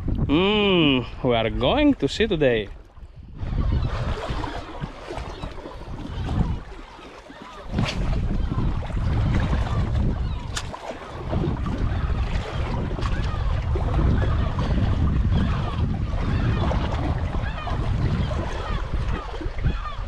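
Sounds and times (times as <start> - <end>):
wind buffeting microphone: 0.0 - 20.0
small waves against rocks: 1.7 - 20.0.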